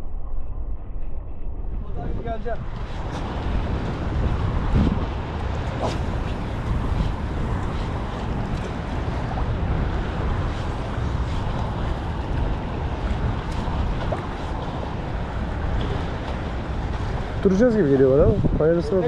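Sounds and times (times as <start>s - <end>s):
wind buffeting microphone: 0.0s - 19.0s
choppy sea waves: 1.6s - 19.0s.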